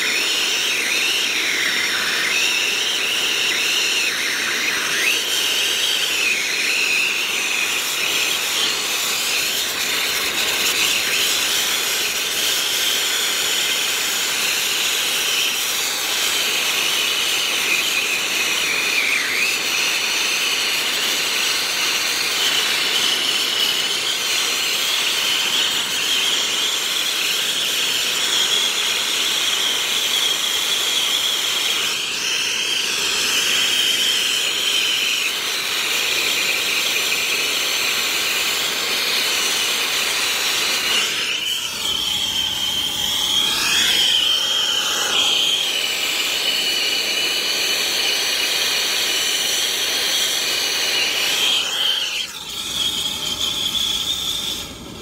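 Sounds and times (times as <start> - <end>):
torch flame hissing: 0.0 - 55.0.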